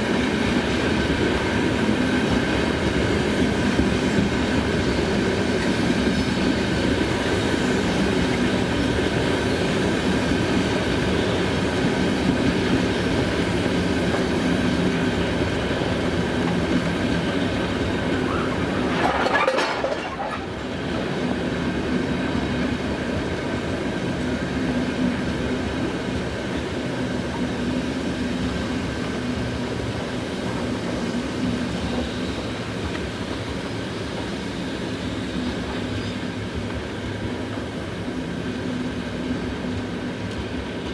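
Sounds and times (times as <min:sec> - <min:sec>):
freight train rolling on rails: 0:00.0 - 0:40.9.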